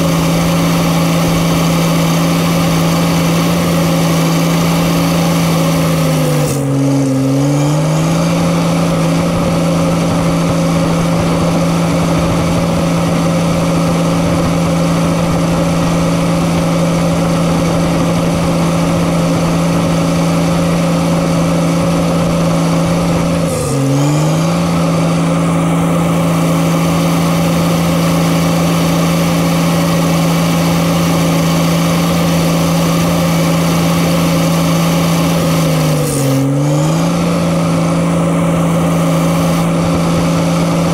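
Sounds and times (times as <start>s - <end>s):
heavy diesel engine under load: 0.0s - 40.9s.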